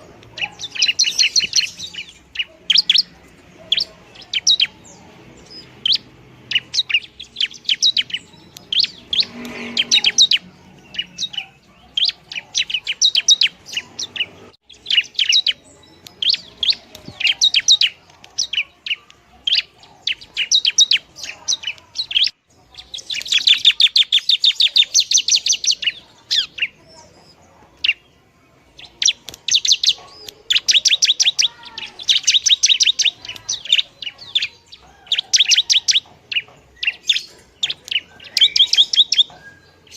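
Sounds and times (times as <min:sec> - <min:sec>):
bird singing rapid chattering notes: 0:00.0 - 0:39.9.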